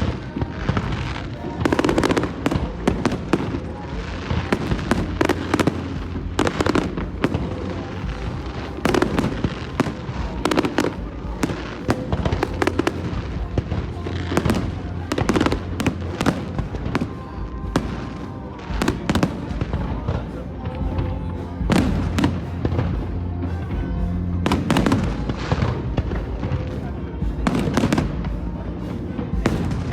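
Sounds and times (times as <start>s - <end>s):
fireworks bangs and crackles: 0.0s - 29.9s.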